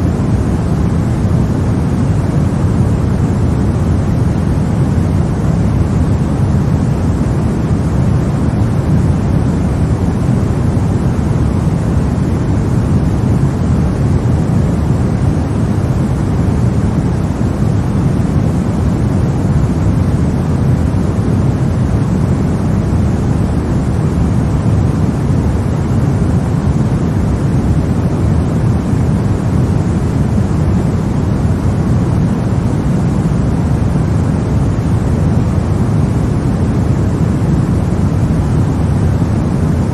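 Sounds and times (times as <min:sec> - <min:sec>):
low rumbling hiss noise: 0:00.0 - 0:39.9.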